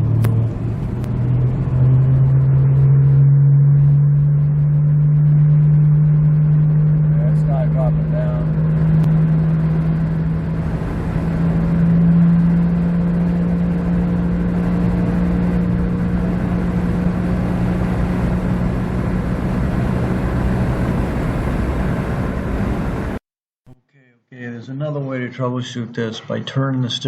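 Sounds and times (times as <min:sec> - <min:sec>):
road rumble: 0:00.0 - 0:23.2.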